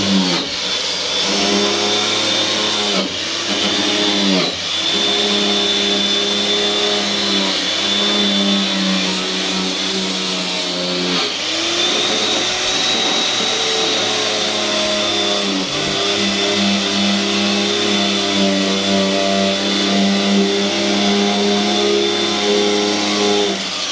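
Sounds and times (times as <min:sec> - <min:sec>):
power tool motor running: 0:00.0 - 0:23.9.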